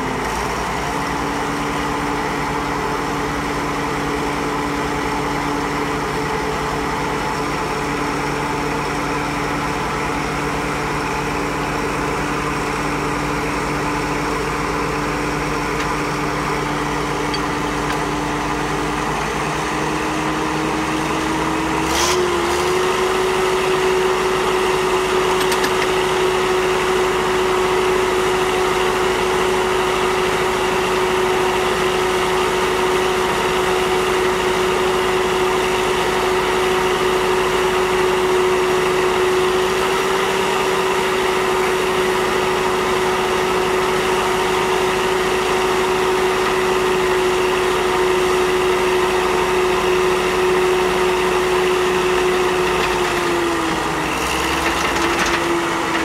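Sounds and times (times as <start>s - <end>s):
grader engine humming: 0.0s - 56.0s.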